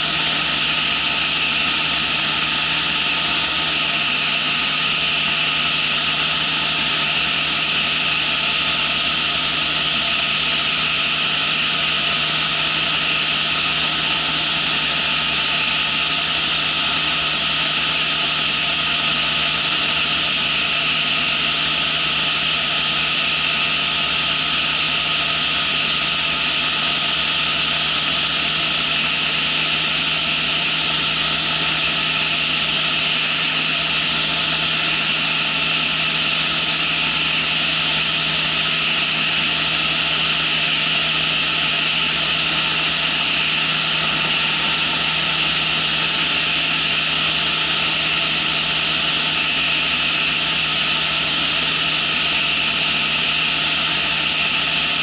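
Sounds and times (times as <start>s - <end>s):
aircraft engine droning: 0.0s - 55.0s.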